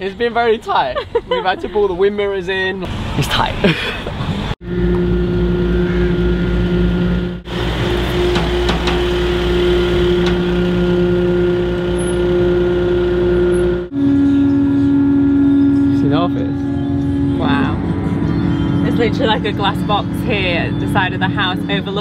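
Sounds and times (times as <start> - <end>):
road rumble: 0.0 - 22.0
van engine drone: 2.8 - 22.0.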